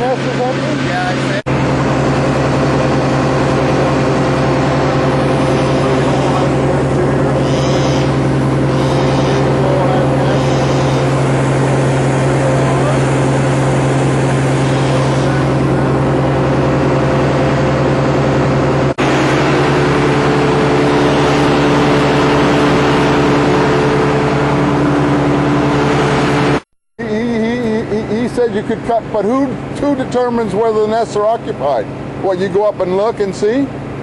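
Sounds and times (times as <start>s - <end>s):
large engine droning: 0.0s - 34.0s.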